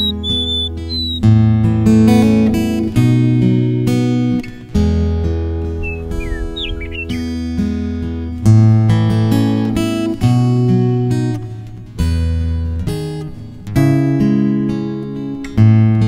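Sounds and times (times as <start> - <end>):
acoustic guitar strummed chords: 0.0 - 16.0.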